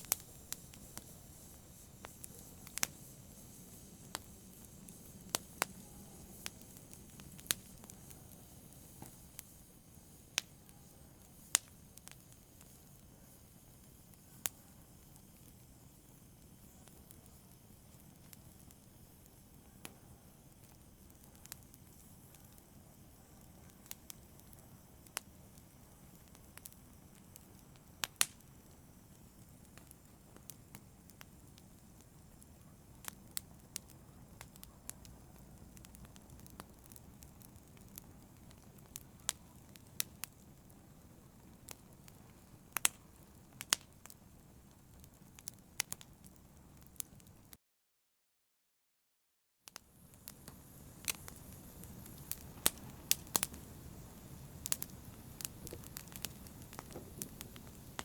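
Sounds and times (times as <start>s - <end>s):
fire crackling: 0.0s - 47.6s, 49.7s - 58.0s.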